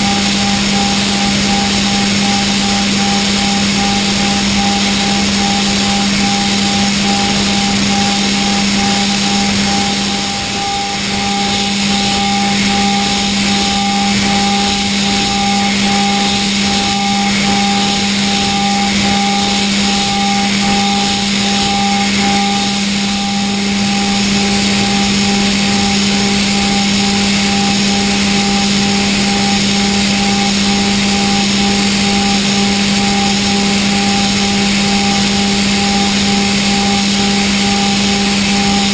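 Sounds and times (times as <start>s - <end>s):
constant machine hiss: 0.0s - 38.9s
milling machine cutting tone: 0.0s - 38.9s.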